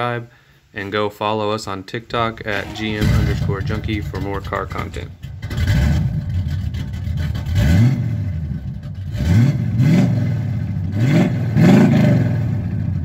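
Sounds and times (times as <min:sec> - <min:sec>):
car engine revving: 0:02.4 - 0:13.0.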